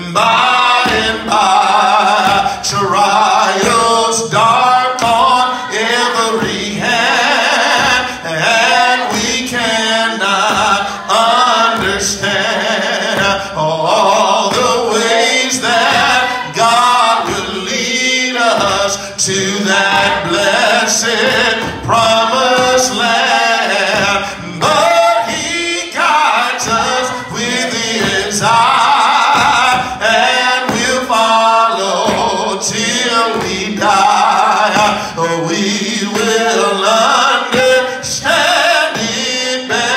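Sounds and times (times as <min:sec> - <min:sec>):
man singing into a microphone: 0:00.0 - 0:39.9.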